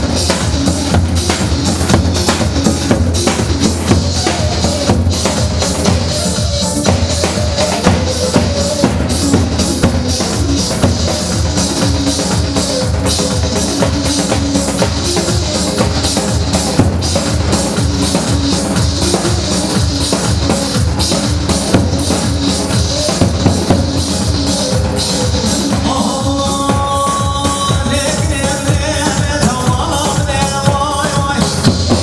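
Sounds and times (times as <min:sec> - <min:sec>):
fast drum beat: 0:00.0 - 0:32.0
keyboard melody: 0:00.0 - 0:32.0.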